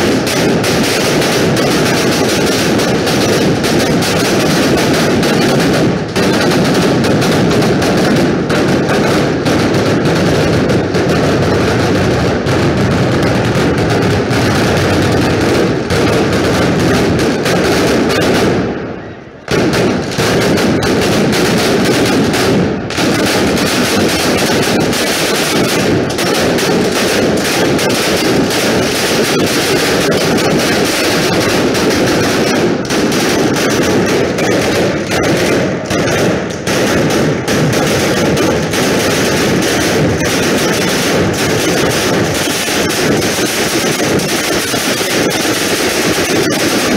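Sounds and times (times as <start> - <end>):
fireworks and firecrackers banging: 0.0 - 46.9.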